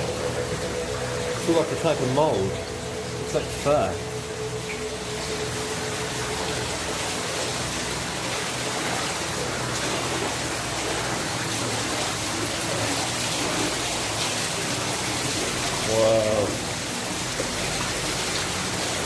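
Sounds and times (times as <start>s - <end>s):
echoing rush of water: 0.0s - 19.0s.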